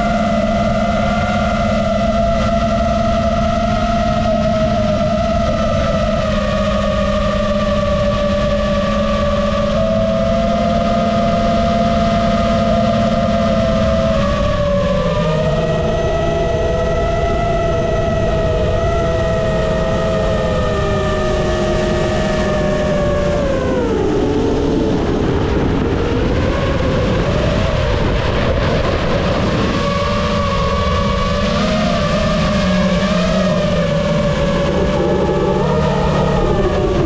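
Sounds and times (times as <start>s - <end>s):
drone motors whining: 0.0s - 37.0s
wind noise: 0.0s - 37.0s.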